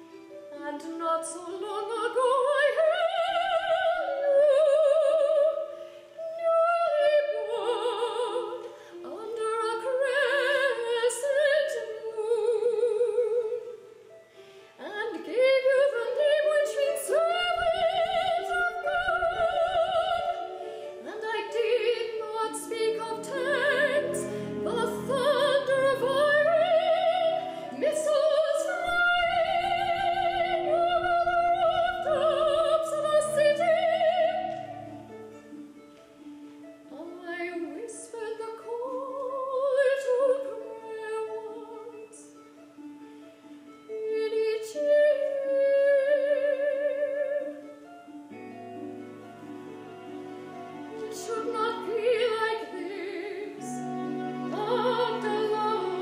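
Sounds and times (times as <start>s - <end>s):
soprano singing operatically: 0.0s - 35.7s, 36.8s - 42.4s, 43.9s - 56.0s
harp: 0.0s - 56.0s.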